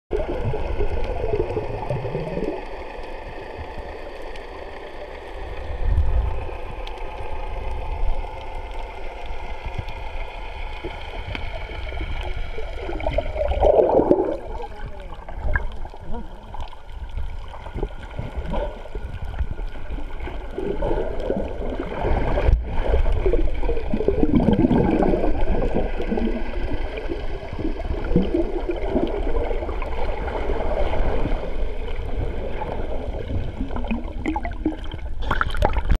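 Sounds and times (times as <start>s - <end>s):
constant low rumble: 0.1s - 35.2s
water gurgling and bubbling: 0.1s - 36.0s.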